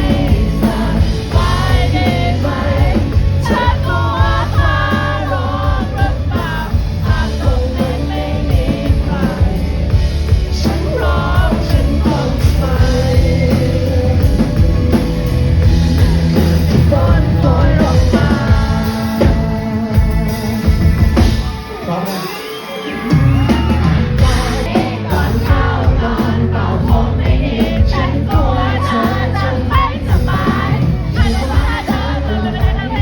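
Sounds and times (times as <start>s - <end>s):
lead vocal singing: 0.0s - 33.0s
rock band playing live: 0.0s - 33.0s.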